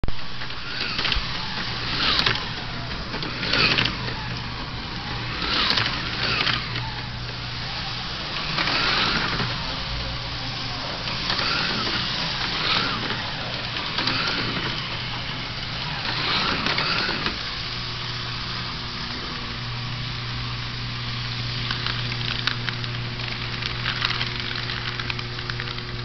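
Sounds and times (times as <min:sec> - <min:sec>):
steady low hum: 0:00.1 - 0:26.0
small electric motors whining: 0:00.2 - 0:26.0.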